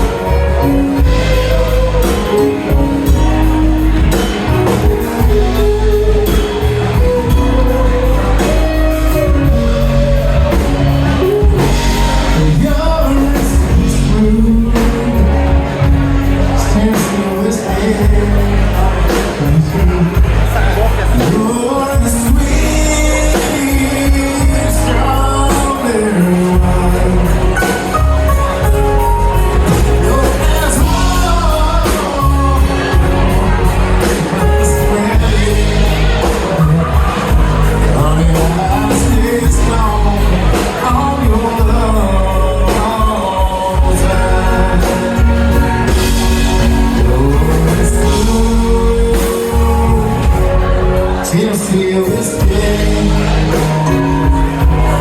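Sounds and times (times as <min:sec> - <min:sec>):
drum beat: 0:00.0 - 0:51.8, 0:52.4 - 0:55.0
driving bass: 0:00.0 - 0:55.0
live band playing: 0:00.0 - 0:55.0
person singing: 0:00.0 - 0:55.0.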